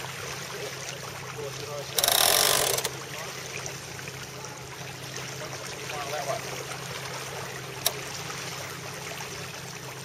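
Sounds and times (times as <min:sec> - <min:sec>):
water rushing along a hull: 0:00.0 - 0:10.0.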